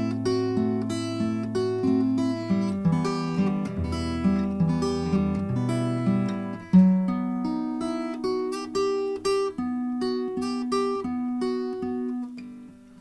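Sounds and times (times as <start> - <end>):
slow plucked guitar melody: 0.0 - 13.0.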